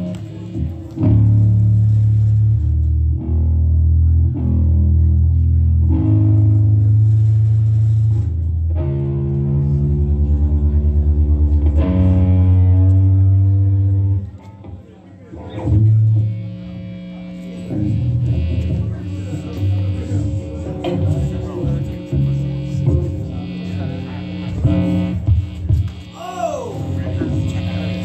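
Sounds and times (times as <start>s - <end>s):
amplified guitar low notes: 0.0s - 28.0s.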